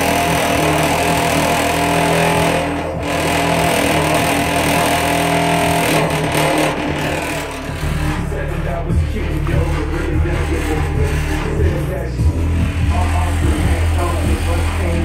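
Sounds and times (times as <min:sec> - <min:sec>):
bass-heavy hip-hop beat: 0:00.0 - 0:15.0.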